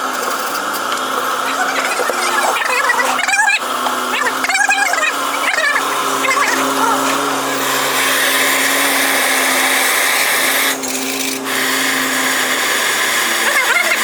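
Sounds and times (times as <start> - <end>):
power tool humming and hissing: 0.0 - 14.0.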